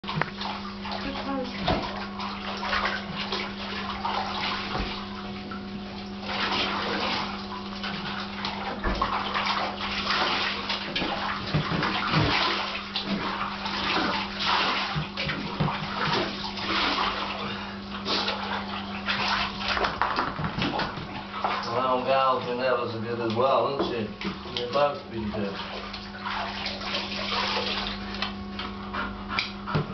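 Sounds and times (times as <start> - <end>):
water splashing in a bathtub: 0.0 - 29.9.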